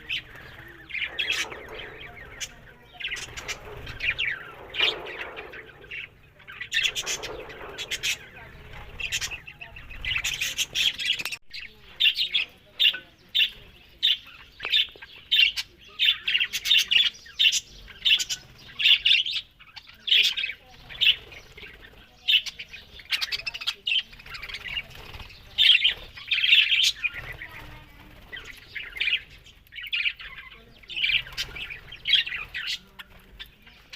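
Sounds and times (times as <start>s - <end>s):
parrots chirping and squawking: 0.0s - 33.9s.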